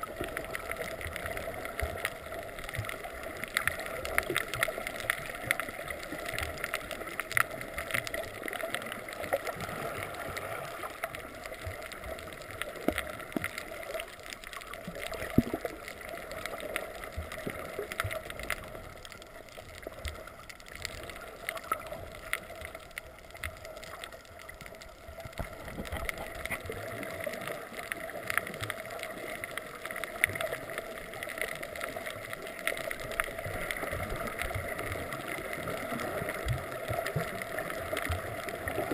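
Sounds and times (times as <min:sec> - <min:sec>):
muffled rush of water underwater: 0:00.0 - 0:38.9.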